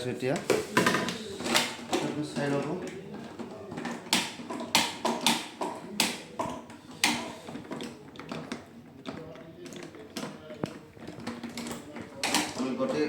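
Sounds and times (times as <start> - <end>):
plastic parts clicking and knocking: 0.2 - 13.0.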